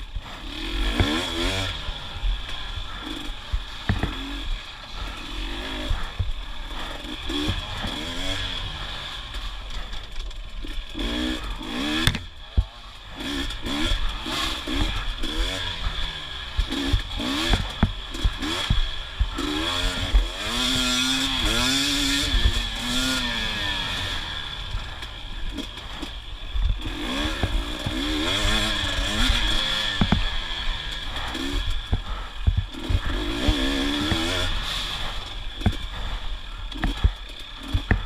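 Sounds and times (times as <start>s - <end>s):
dirt bike engine revving: 0.0s - 38.0s
knocks and clatter from bike: 0.0s - 38.0s.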